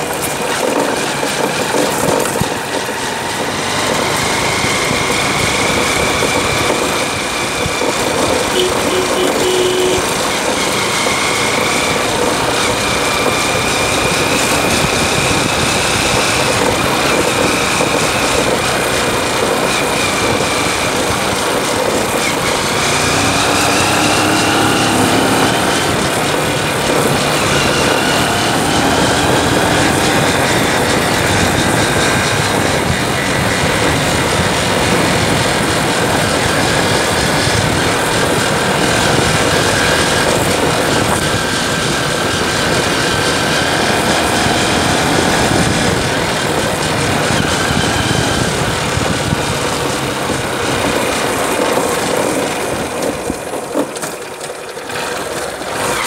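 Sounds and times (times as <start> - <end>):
motorcycle engine running: 0.0 - 56.0
rush of riding noise: 0.0 - 56.0.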